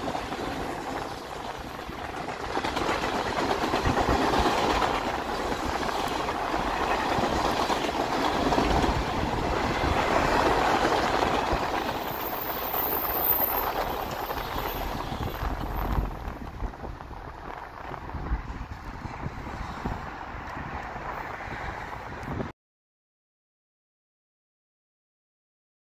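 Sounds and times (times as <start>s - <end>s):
freight train cars rolling past: 0.0s - 22.4s.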